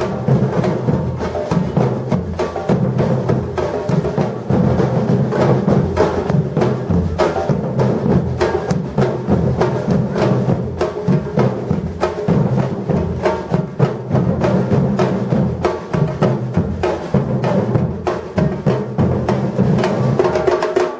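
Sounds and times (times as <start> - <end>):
drum ensemble playing: 0.0 - 20.9.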